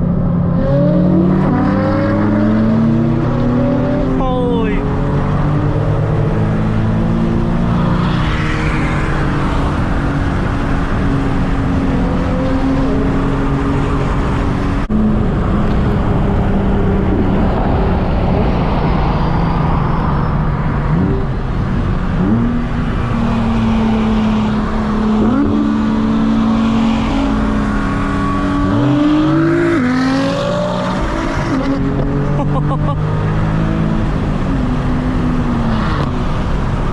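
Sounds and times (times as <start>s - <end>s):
car engine accelerating: 0.0s - 36.9s.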